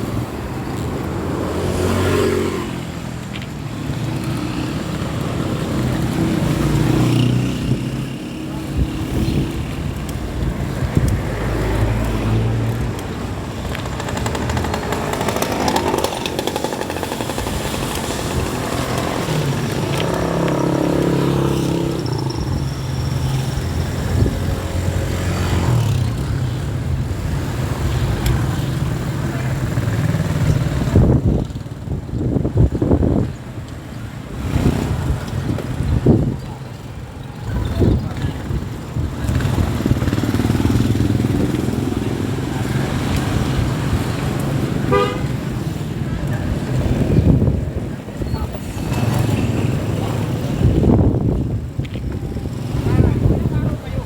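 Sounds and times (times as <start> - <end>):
vehicle engines passing: 0.0 - 54.0
wind and road noise: 0.0 - 54.0.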